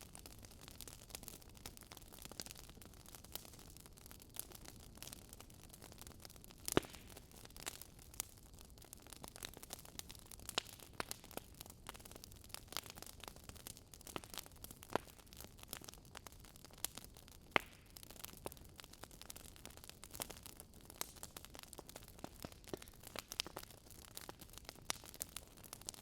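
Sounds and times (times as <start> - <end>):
burning logs crackling: 0.0 - 26.0.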